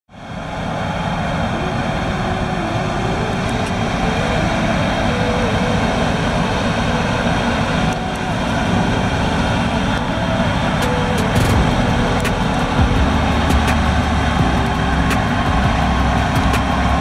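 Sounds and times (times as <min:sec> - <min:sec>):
combine harvester engine and threshing: 0:00.2 - 0:17.0.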